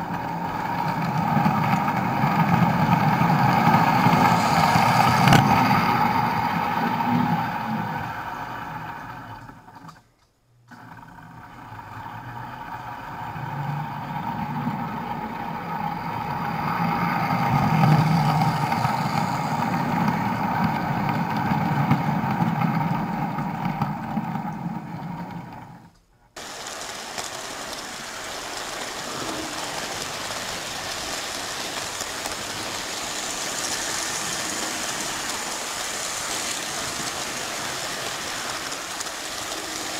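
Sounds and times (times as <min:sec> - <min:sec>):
toy train motor hum and rumble: 0:00.0 - 0:10.0, 0:10.7 - 0:39.9.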